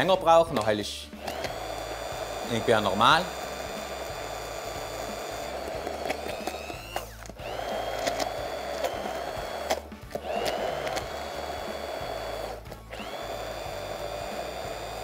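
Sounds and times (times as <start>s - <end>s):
immersion blender motor whirring: 1.2s - 15.0s.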